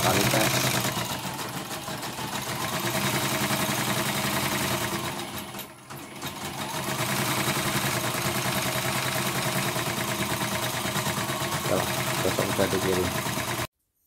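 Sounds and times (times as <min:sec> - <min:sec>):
embroidery machine stitching: 0:00.0 - 0:13.7.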